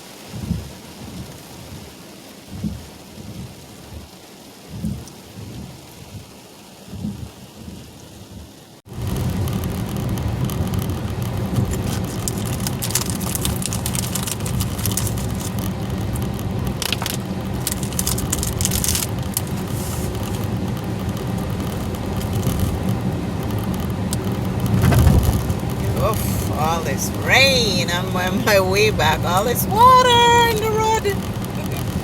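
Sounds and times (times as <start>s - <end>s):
car engine and tyre rumble: 0.0s - 32.0s
rain on car: 0.0s - 32.0s.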